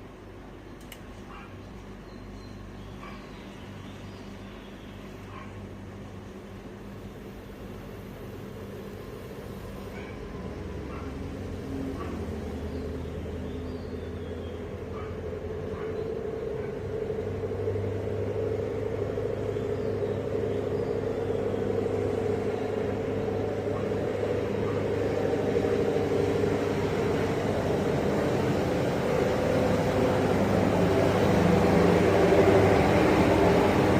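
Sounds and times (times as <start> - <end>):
heavy vehicle engine humming: 4.4 - 33.9.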